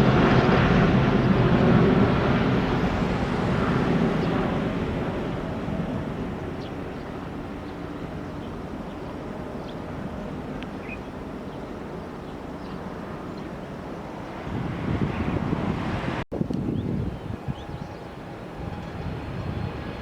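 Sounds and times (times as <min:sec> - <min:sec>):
jet aircraft engine rumble: 0:00.0 - 0:20.0.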